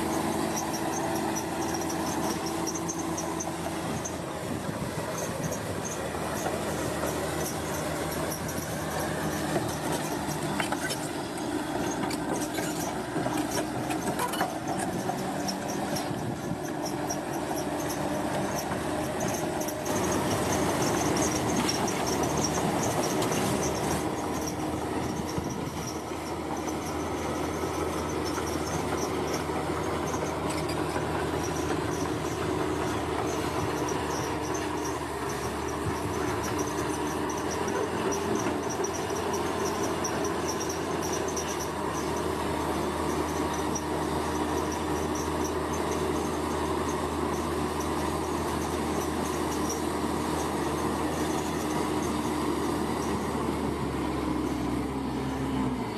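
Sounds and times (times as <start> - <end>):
heavy machinery engine drone: 0.0 - 55.9.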